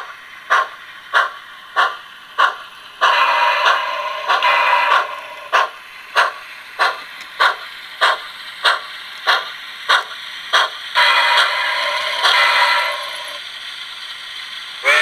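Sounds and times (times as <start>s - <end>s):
model steam locomotive chuffs: 0.0s - 15.0s
steady steam hiss: 0.0s - 15.0s.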